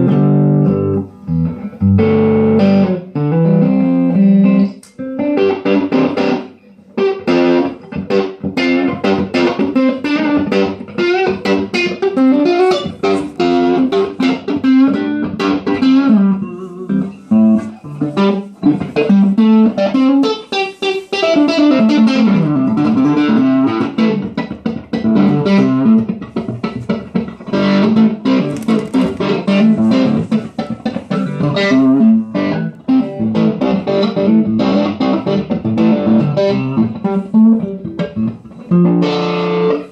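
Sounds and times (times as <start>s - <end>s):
electric guitar picking single notes: 0.0s - 39.9s.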